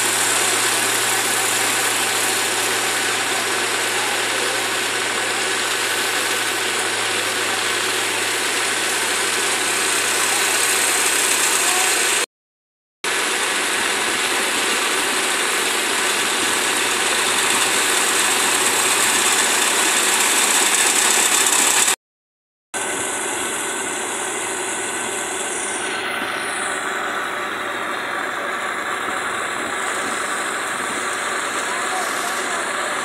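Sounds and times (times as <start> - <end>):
grain auger unloading: 0.0 - 12.2, 13.1 - 22.0, 22.8 - 33.0
combine harvester running: 0.0 - 12.3, 13.0 - 22.0, 22.8 - 33.0.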